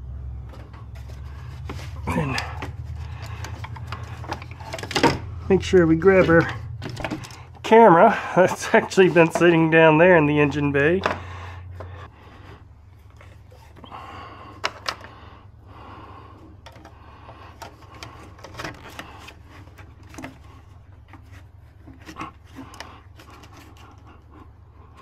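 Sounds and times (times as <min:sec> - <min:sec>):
steady low hum: 0:00.0 - 0:25.0
handling clicks and knocks: 0:00.4 - 0:12.1, 0:13.0 - 0:15.2, 0:16.4 - 0:24.3.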